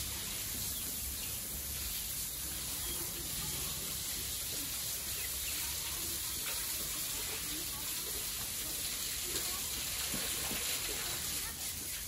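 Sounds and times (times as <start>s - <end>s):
chickens scratching: 0.0s - 12.0s.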